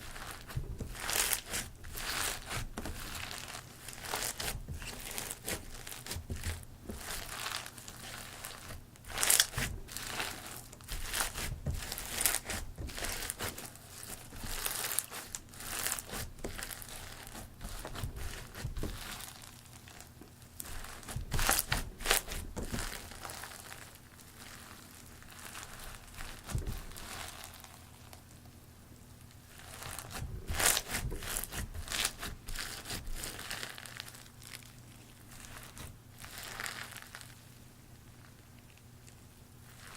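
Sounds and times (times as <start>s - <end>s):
crunchy slime crackling and popping: 0.0s - 28.4s, 29.3s - 37.4s.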